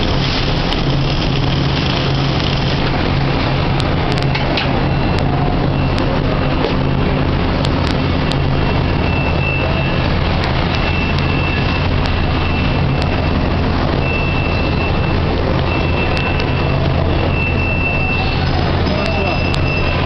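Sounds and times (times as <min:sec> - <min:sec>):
welding arc noise: 0:00.0 - 0:20.0.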